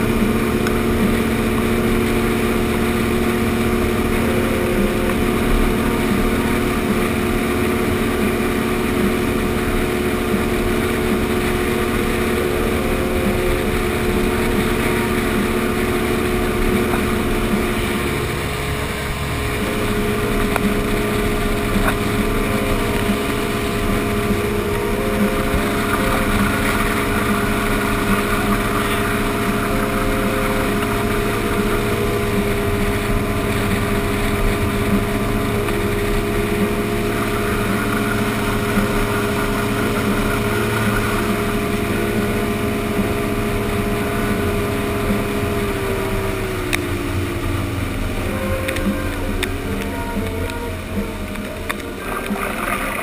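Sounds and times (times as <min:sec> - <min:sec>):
boat motor running: 0:00.0 - 0:53.0
water rushing along hull: 0:00.0 - 0:53.0.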